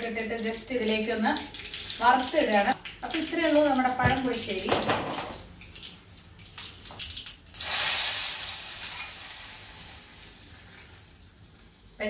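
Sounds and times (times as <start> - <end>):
hot oil sizzling: 0.0 - 4.0, 4.6 - 12.0.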